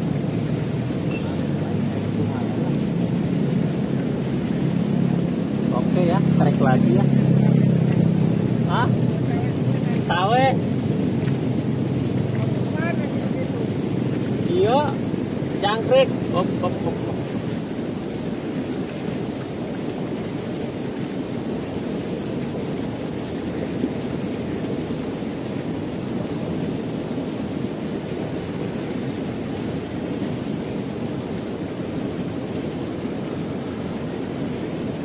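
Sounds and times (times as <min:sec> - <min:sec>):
river current rushing: 0:00.0 - 0:35.0.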